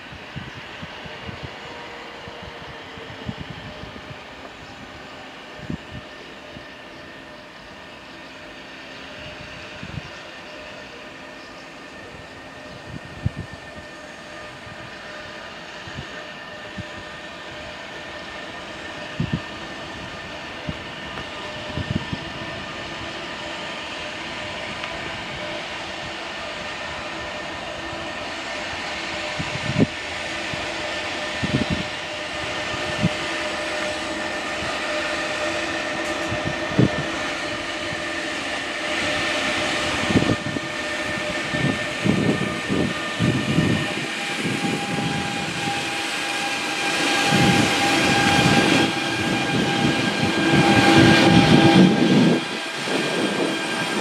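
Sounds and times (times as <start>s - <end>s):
electric locomotive hum: 0.0s - 54.0s.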